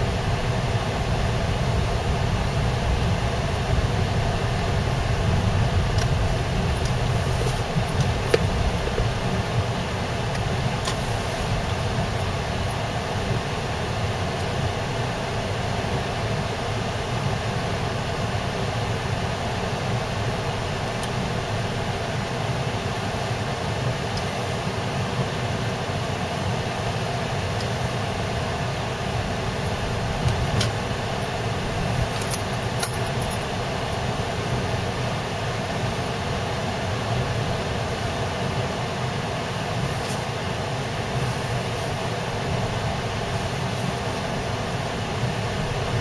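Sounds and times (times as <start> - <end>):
car road noise: 0.0 - 25.3, 26.0 - 38.7.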